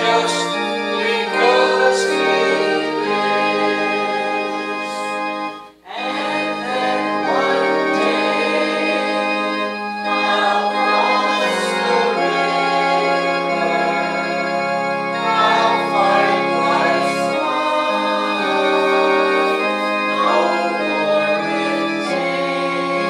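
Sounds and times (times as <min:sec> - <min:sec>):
person singing: 0:00.0 - 0:05.2, 0:05.8 - 0:14.4, 0:15.2 - 0:23.0
organ playing a slow hymn: 0:00.0 - 0:23.0.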